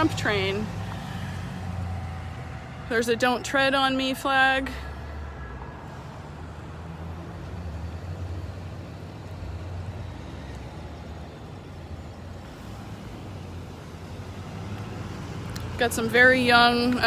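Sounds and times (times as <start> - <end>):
cars and trucks driving past: 0.0 - 17.0.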